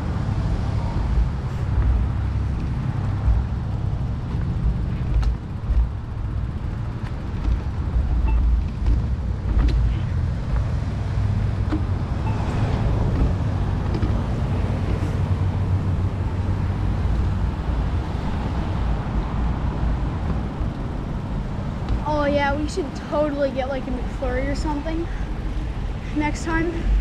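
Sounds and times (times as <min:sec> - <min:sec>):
road traffic passing: 0:00.0 - 0:27.0
wind rumble on microphone: 0:00.0 - 0:27.0.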